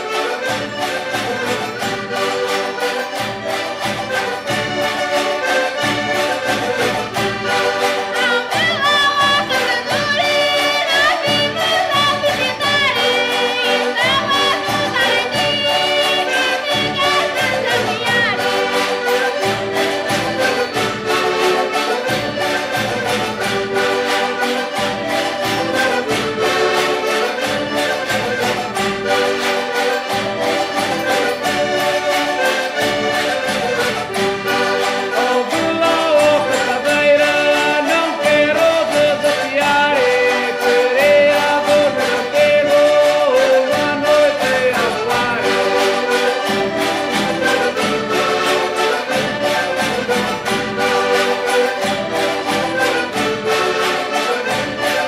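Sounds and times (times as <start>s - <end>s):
instrumental music with steady beat: 0.0s - 55.0s.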